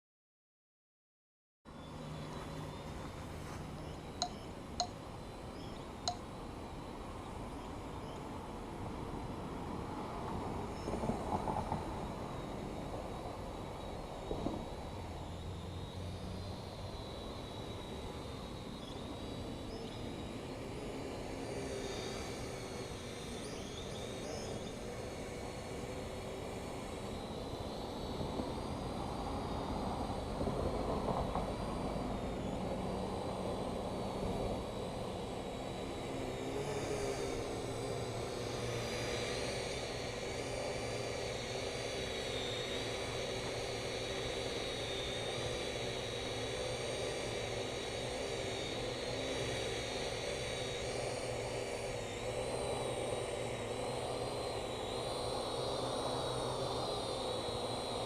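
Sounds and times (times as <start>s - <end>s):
quadcopter whirring with high whine: 1.7s - 58.0s.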